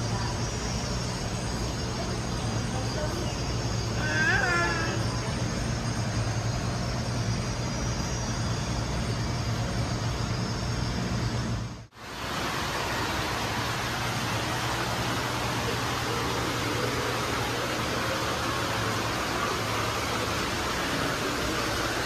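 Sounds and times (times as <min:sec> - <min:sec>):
constant hiss: 0:00.0 - 0:22.0
low hum: 0:00.0 - 0:22.0.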